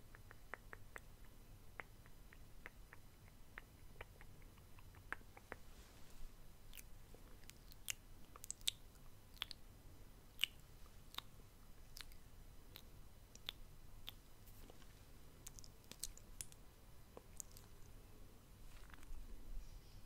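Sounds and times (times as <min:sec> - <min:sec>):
wet lip and tongue clicks: 0:00.1 - 0:05.7, 0:06.7 - 0:09.6, 0:10.3 - 0:17.9, 0:18.8 - 0:19.2.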